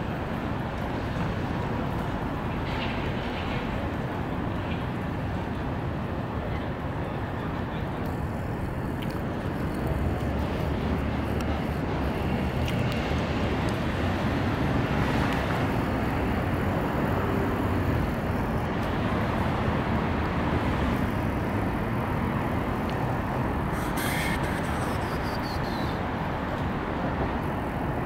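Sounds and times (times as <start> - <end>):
low rumble of city noise: 0.0 - 28.0.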